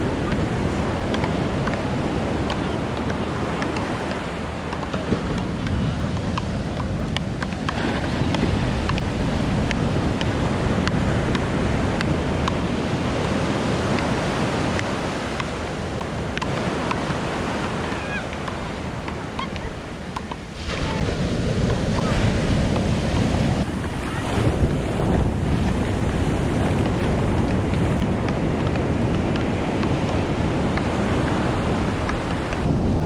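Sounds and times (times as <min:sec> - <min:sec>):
ocean surf breaking on beach: 0:00.0 - 0:33.0
wind rumbling on microphone: 0:00.0 - 0:33.0.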